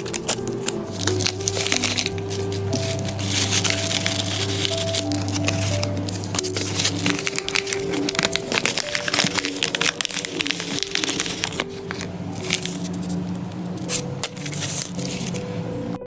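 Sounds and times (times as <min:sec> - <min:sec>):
mailer bag crinkling: 0:00.0 - 0:13.2, 0:13.8 - 0:15.4
faint background music: 0:00.0 - 0:16.0.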